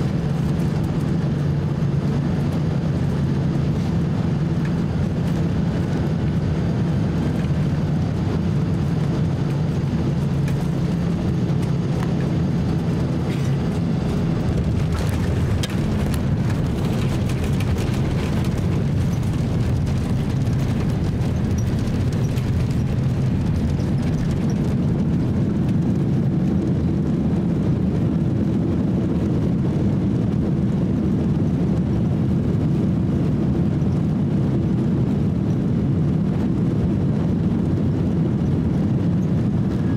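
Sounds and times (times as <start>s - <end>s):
engine and airflow rumble: 0.0s - 39.9s.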